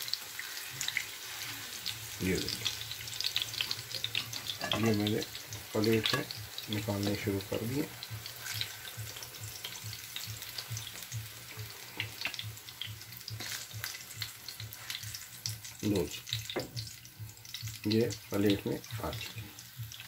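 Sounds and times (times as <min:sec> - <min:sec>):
kebabs sizzling in oil: 0:00.0 - 0:20.0.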